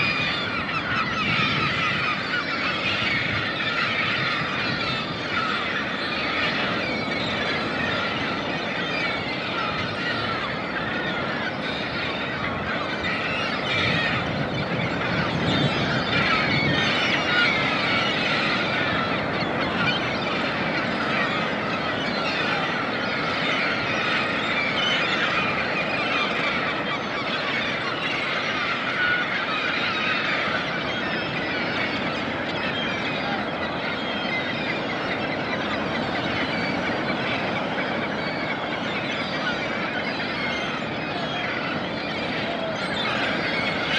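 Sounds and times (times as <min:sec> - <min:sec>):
seabirds calling: 0:00.0 - 0:43.9.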